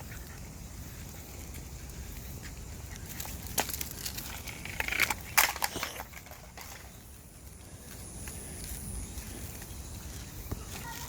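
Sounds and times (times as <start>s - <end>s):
dry crunching and crackling: 0.1s - 11.0s.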